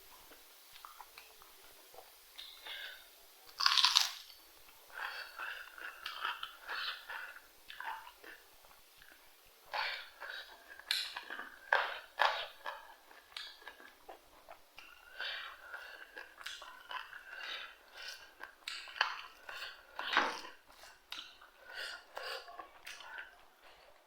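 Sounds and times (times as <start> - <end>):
person chewing crunchy food: 0.3 - 24.0.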